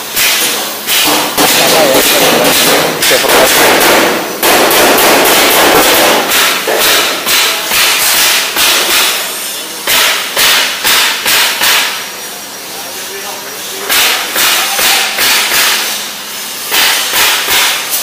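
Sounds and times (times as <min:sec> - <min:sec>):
hammer striking sheet steel: 0:00.0 - 0:12.1, 0:13.8 - 0:18.0.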